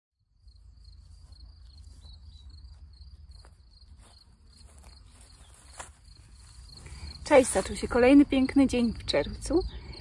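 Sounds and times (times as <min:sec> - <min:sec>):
cricket chirping: 0:00.2 - 0:10.0.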